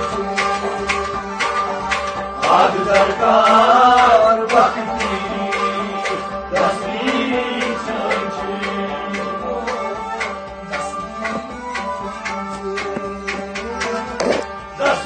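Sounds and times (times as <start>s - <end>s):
man singing devotional song: 0.0s - 1.4s, 2.4s - 15.0s
hand drum strokes: 0.0s - 14.6s
steady drone: 0.0s - 14.8s.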